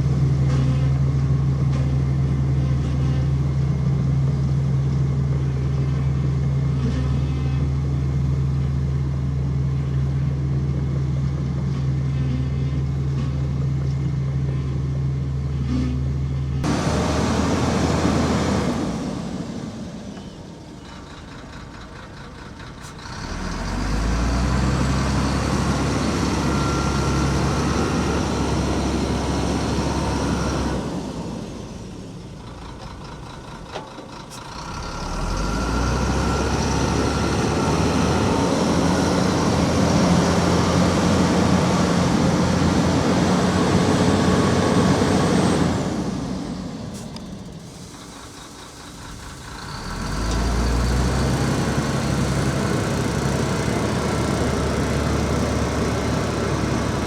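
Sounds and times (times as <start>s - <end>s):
diesel earthmoving machinery: 0.0s - 57.0s.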